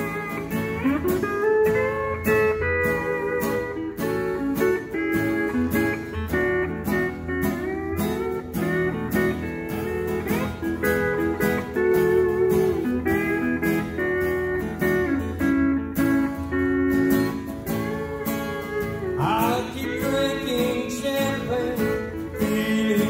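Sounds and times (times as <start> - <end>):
pedal steel guitar sliding melody: 0.0 - 23.0
strummed acoustic guitar: 0.0 - 23.0.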